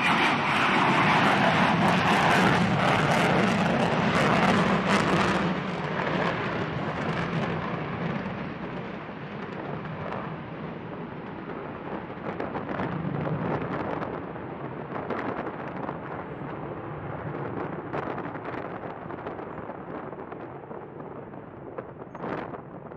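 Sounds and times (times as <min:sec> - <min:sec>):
jet engines rumbling and crackling: 0:00.0 - 0:22.9.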